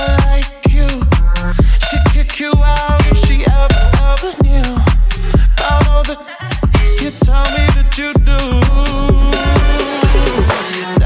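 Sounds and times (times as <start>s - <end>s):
dance music with heavy bass drum: 0.0s - 11.0s.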